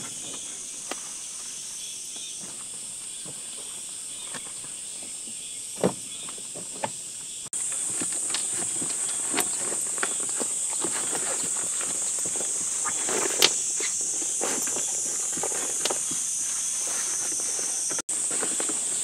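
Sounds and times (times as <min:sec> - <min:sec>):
high insect chirring: 0:00.0 - 0:19.0.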